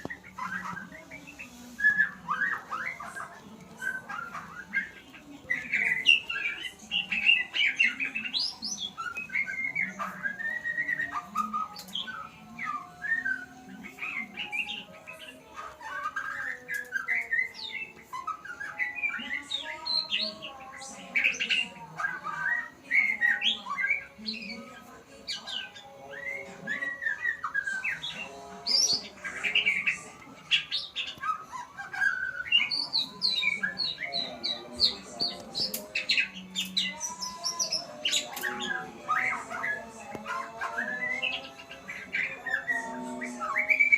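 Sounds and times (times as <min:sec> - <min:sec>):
bird singing whistles and chirps: 0:00.0 - 0:43.9.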